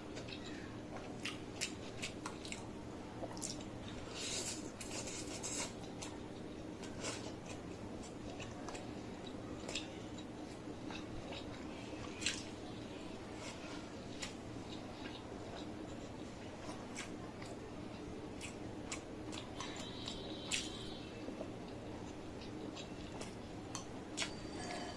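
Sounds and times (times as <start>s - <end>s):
chewing food: 0.0s - 24.9s
steady low hum: 0.0s - 24.9s.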